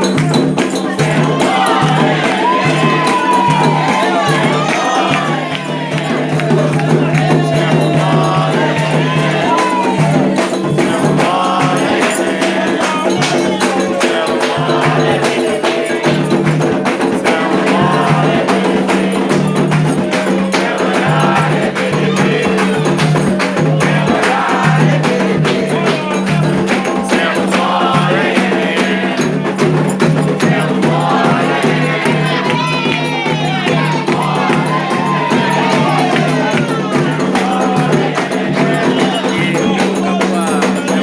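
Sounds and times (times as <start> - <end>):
hand drums beating: 0.0 - 41.0
metal percussion: 0.0 - 41.0
voices singing a chant: 0.0 - 41.0.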